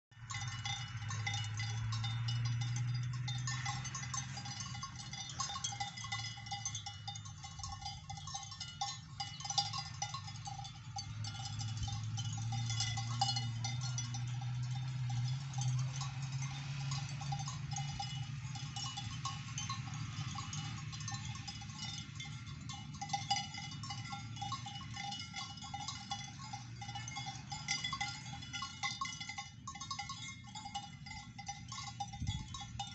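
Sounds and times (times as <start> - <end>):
cowbells clanking: 0.1 - 32.9.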